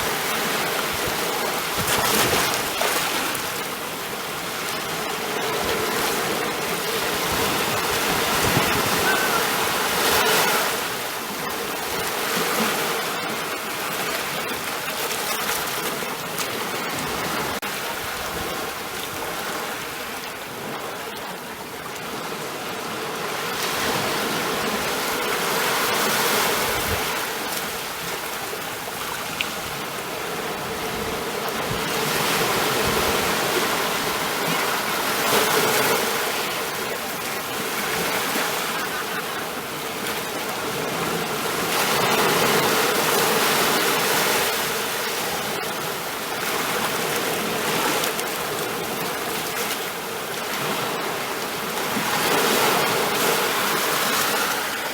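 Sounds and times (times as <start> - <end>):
ocean waves washing on shore: 0.0 - 54.9.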